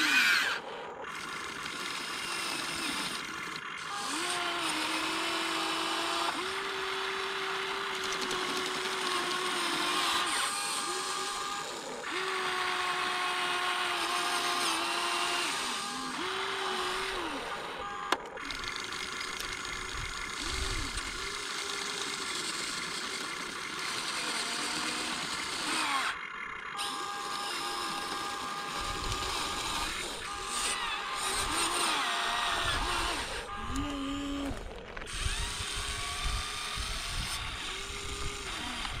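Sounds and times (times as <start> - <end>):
electric motors whining: 0.0 - 39.0.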